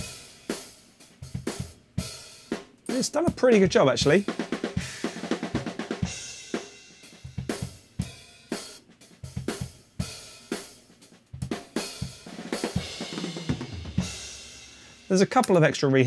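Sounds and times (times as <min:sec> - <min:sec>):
hi-hat strokes: 0:00.0 - 0:13.4, 0:14.0 - 0:15.6.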